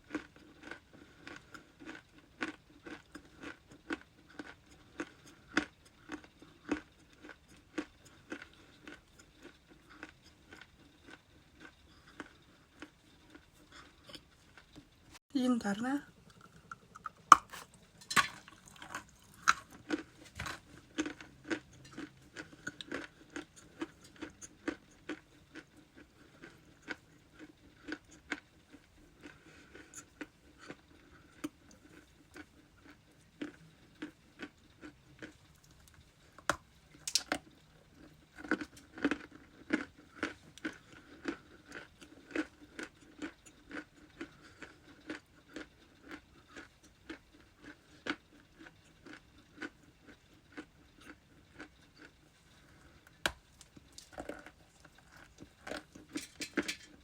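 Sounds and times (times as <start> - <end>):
chewing and crunching ice: 0.0 - 15.0, 16.2 - 57.0.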